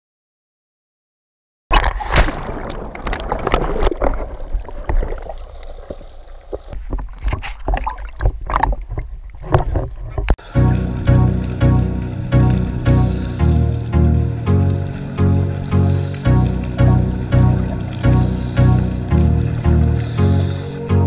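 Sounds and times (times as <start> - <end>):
sea water splashing and sloshing: 1.7 - 21.0.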